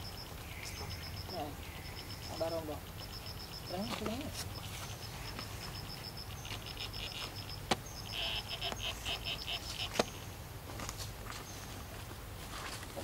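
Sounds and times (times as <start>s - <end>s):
insect chirping: 0.0s - 10.5s.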